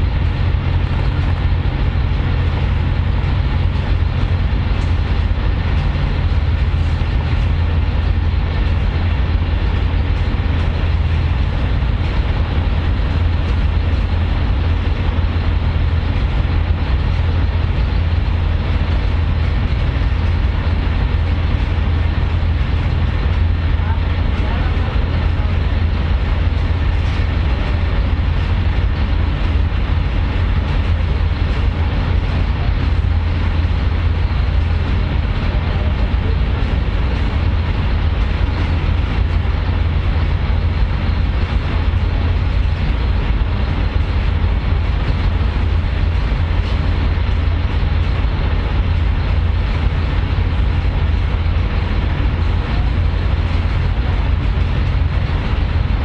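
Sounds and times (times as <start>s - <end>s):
vehicle low rumble: 0.0s - 56.0s.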